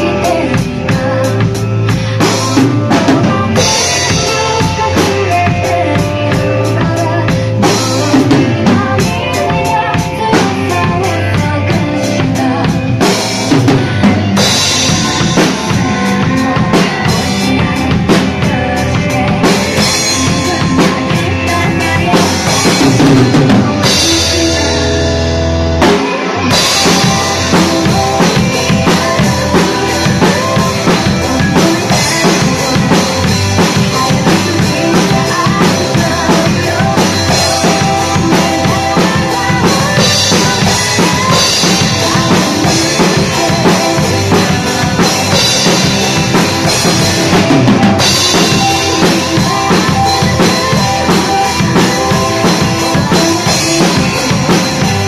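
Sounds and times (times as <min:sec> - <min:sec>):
acoustic drum kit beat: 0:00.0 - 0:55.0
recorded band song: 0:00.0 - 0:55.0.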